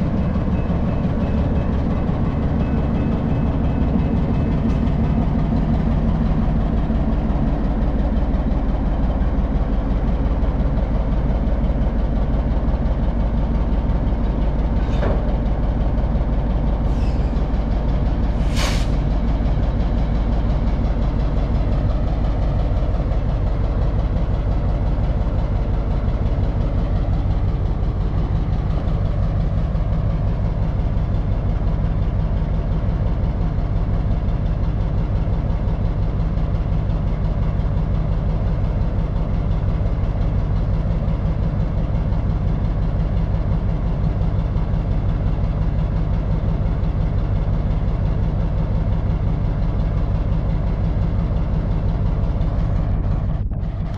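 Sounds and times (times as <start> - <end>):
diesel locomotive engine running: 0.0 - 53.9.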